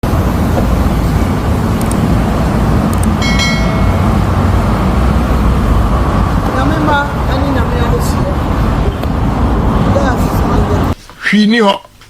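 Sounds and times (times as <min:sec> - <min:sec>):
road traffic rumble: 0:00.0 - 0:11.2.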